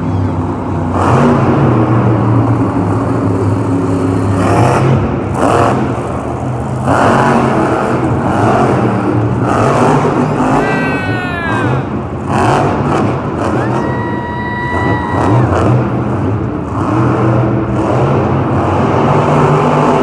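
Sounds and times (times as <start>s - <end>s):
truck engine revving: 0.3s - 20.0s.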